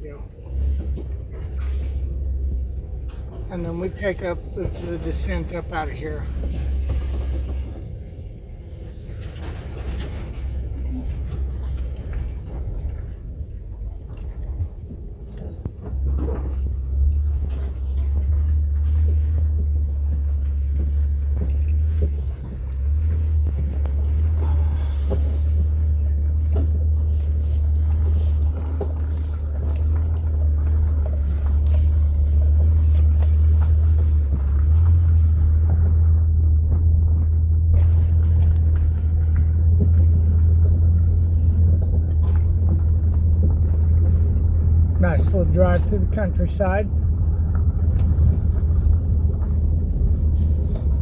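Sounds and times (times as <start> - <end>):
minivan engine rumble from inside: 0.0 - 51.0.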